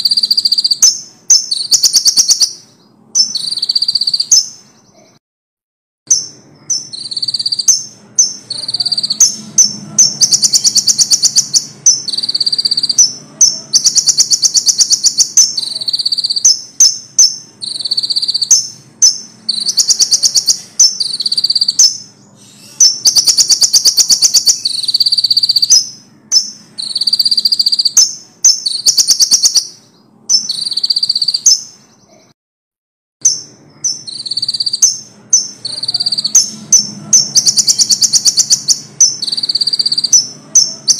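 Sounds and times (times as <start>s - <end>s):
songbird singing fast trills: 0.0s - 4.6s, 6.1s - 31.8s, 33.2s - 40.9s
short sharp bird chirps: 0.0s - 5.2s, 6.1s - 32.4s, 33.2s - 40.9s.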